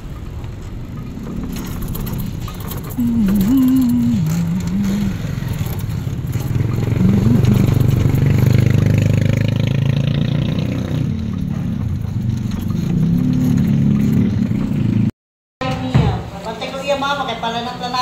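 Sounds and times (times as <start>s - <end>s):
small motorcycle engine running: 0.0s - 15.1s.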